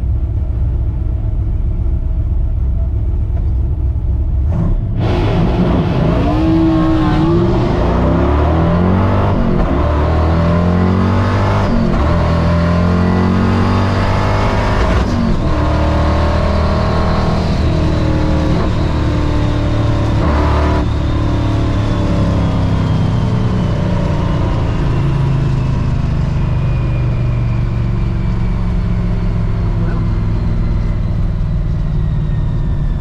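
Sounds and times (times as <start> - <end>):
car engine accelerating hard: 4.4 - 33.0.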